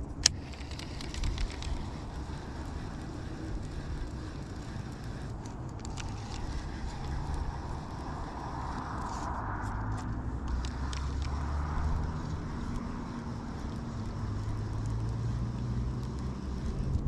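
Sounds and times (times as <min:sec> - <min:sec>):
wind buffeting microphone: 0:00.3 - 0:17.0.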